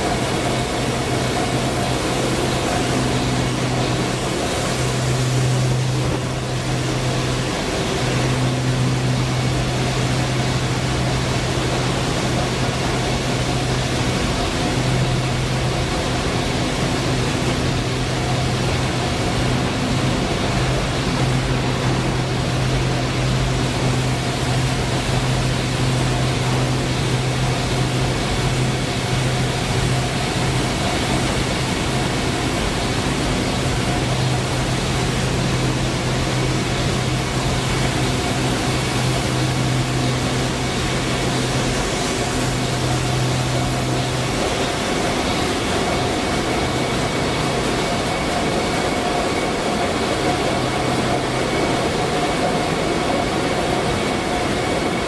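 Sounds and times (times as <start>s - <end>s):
low hum: 0.0s - 55.0s
marine diesel engine running: 0.0s - 55.0s.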